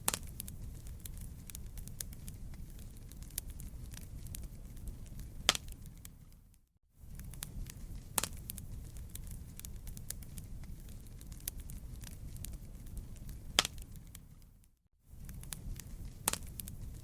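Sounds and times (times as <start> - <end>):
loud fire pops: 0.0 - 6.4, 7.0 - 14.4, 15.2 - 17.0
campfire crackling: 0.0 - 17.0.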